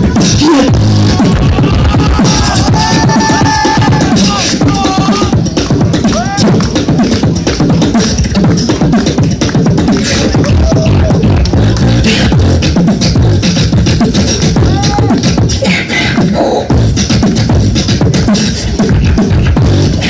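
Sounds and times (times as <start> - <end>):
amplified beatboxing: 0.0 - 20.0
pitched vocal glides: 0.0 - 20.0.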